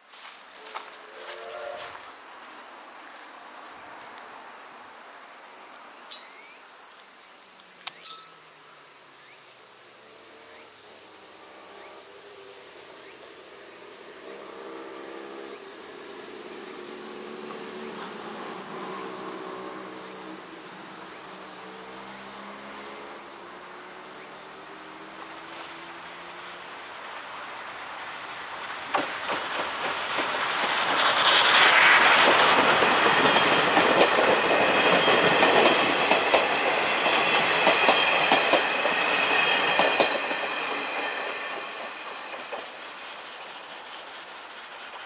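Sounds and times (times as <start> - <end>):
insects calling: 0.0 - 45.0.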